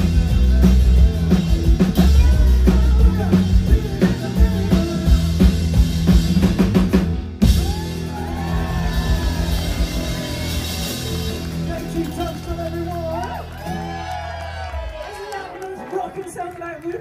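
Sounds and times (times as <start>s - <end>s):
drums pounding: 0.0s - 15.2s
live rock band: 0.0s - 15.8s.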